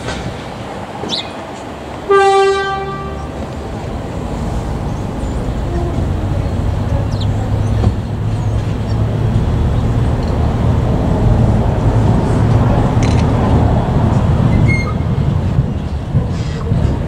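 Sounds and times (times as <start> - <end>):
diesel locomotive engine droning: 0.0 - 17.0.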